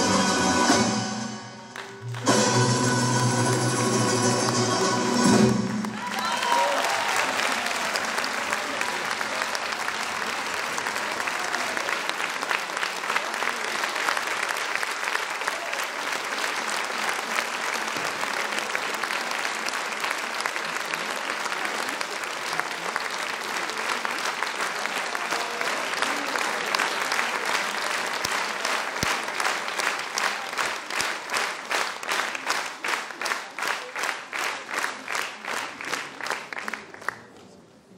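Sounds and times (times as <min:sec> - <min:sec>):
rhythmic unison clapping: 0:01.7 - 0:06.0, 0:06.8 - 0:37.4
audience applauding: 0:01.7 - 0:37.6.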